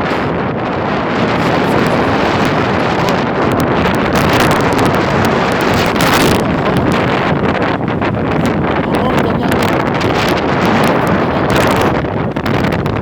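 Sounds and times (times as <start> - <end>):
wind hitting microphone: 0.0 - 13.0
wind rushing against truck: 0.0 - 13.0.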